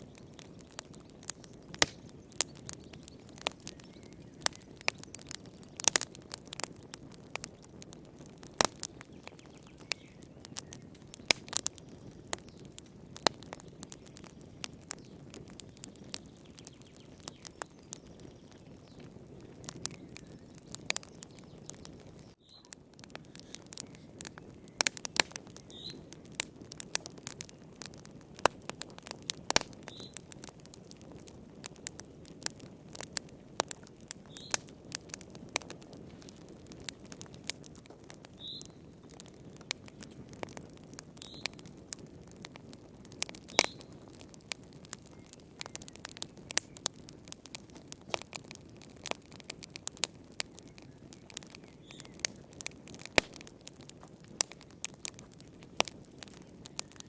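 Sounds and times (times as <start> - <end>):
fire pops and snaps: 0.0 - 57.0
low hiss of burning: 0.0 - 57.0.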